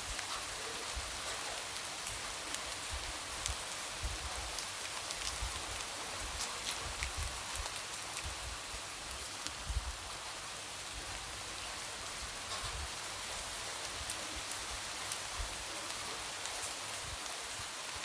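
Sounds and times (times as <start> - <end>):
light rain falling: 0.0 - 18.0.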